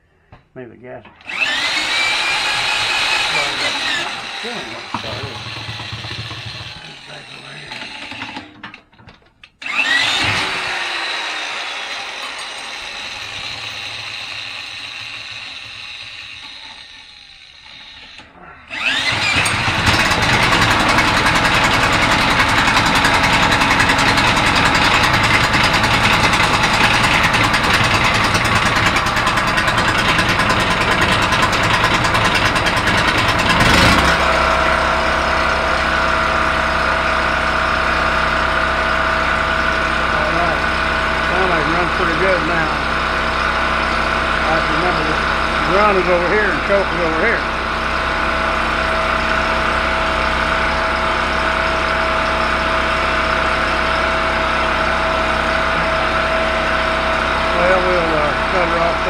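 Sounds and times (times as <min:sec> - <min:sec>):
electric drill whine: 0:01.2 - 0:08.8, 0:09.6 - 0:59.0
generator engine running: 0:01.2 - 0:59.0.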